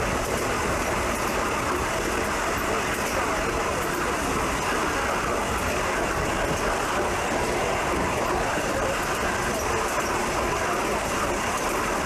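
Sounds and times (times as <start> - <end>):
passenger train running: 0.0 - 12.0.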